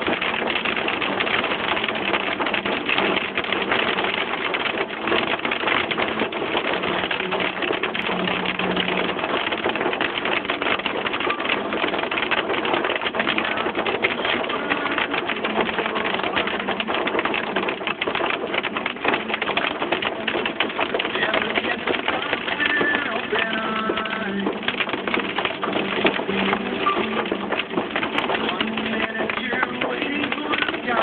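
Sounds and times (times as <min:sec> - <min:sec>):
hail clattering on car roof: 0:00.0 - 0:31.0.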